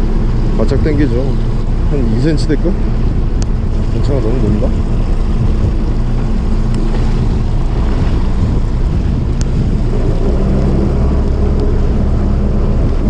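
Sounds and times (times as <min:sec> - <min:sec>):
boat engine humming: 0:00.0 - 0:13.0
swell washing against hull: 0:00.0 - 0:13.0
wind buffeting microphone: 0:00.0 - 0:13.0.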